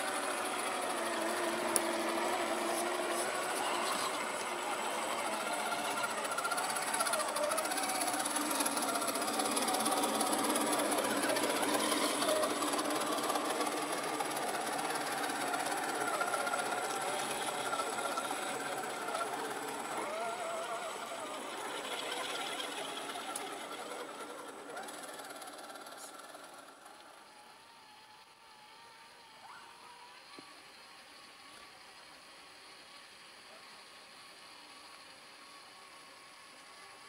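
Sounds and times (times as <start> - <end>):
toy truck electric motors whining: 0.0 - 37.0.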